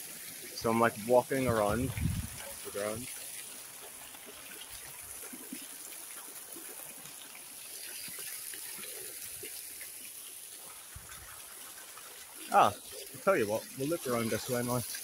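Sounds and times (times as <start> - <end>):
water fountain splashing: 0.0 - 15.0.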